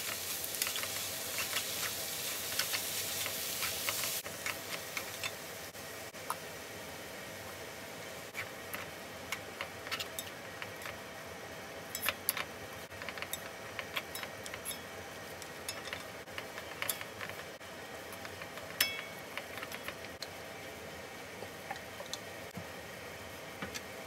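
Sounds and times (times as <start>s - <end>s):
food sizzling: 0.0s - 24.0s.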